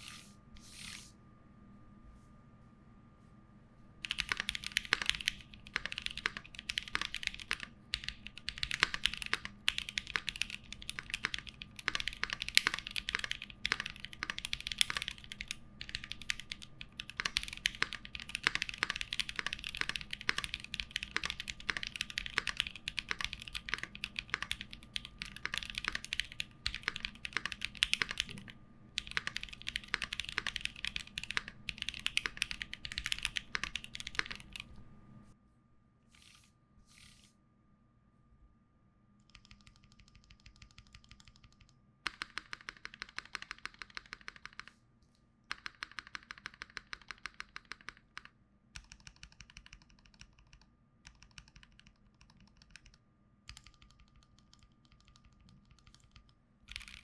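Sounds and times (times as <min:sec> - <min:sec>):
typing on mechanical keyboard: 0:04.0 - 0:34.7, 0:39.3 - 0:44.8, 0:45.5 - 0:57.0.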